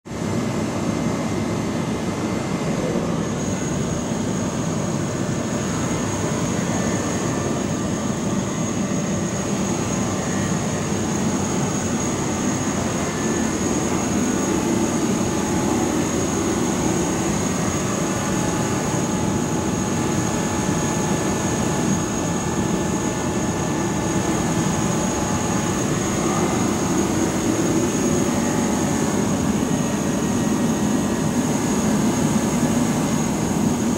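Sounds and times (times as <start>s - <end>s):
steady machinery noise: 1.7s - 33.9s.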